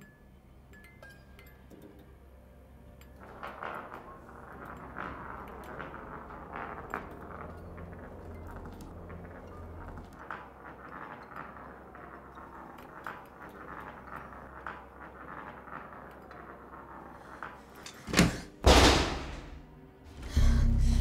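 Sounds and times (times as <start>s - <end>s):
glass marble rolling on floor: 0.0s - 18.3s.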